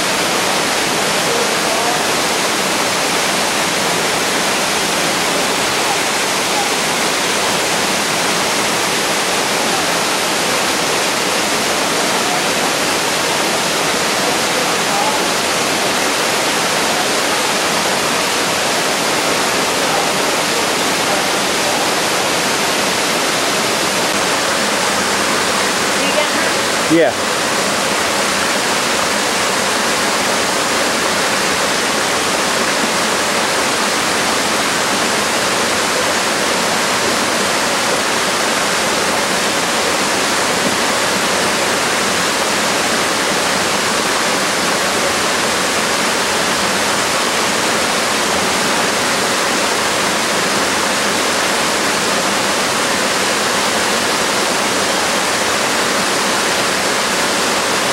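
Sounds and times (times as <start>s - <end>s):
waterfall rushing over rocks: 0.0s - 57.9s.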